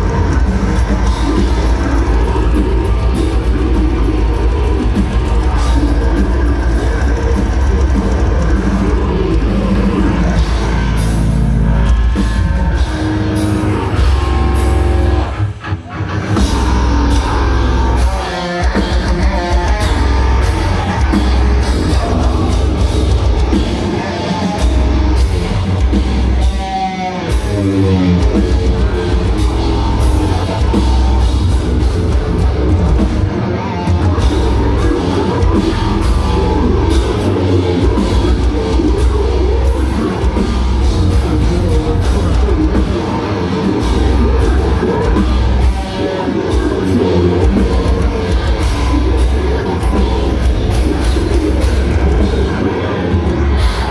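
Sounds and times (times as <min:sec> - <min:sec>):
heavy metal band playing: 0:00.0 - 0:53.9.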